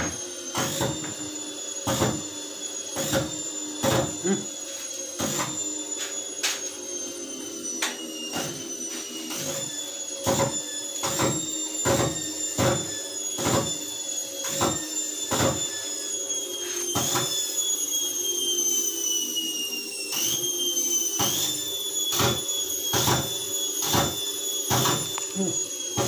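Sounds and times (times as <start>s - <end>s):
washing machine motor whining: 0.0s - 26.0s.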